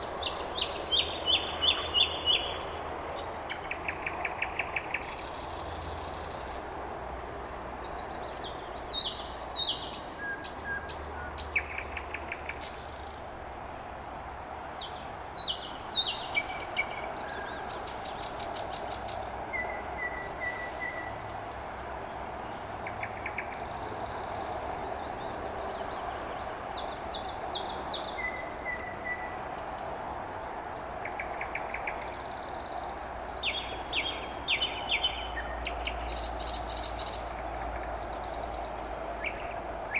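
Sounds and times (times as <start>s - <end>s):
nightingale singing: 0.0s - 2.6s, 7.6s - 13.4s, 14.7s - 39.9s.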